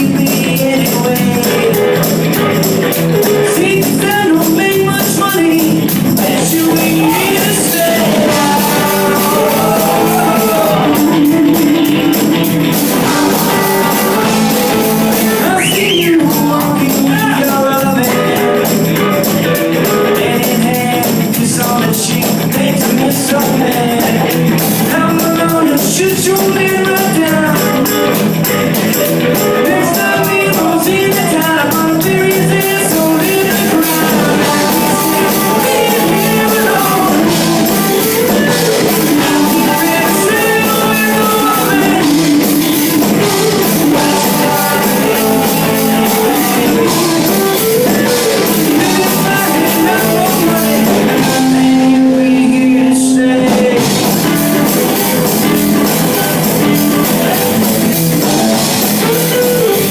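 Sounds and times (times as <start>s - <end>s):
rock song with guitar and vocals: 0.0s - 59.9s.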